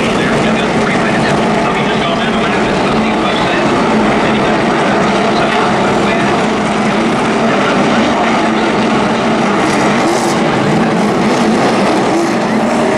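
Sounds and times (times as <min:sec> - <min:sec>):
race engines droning: 0:00.0 - 0:12.9.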